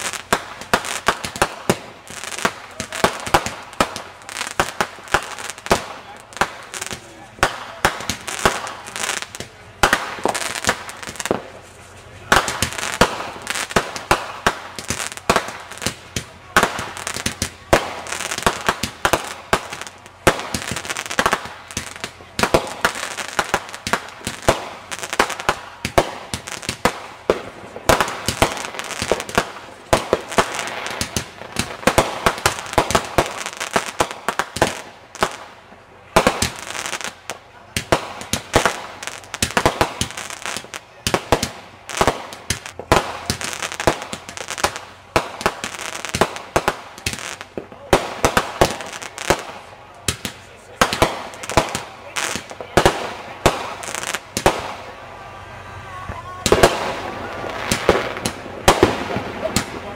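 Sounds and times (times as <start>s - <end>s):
continuous firework hiss: 0.0s - 59.9s
fireworks bangs: 0.0s - 59.9s.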